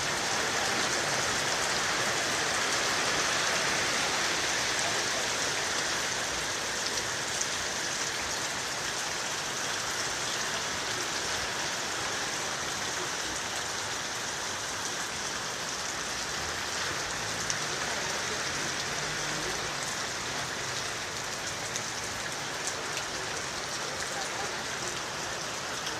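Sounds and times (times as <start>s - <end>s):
steady rainfall: 0.0s - 25.9s.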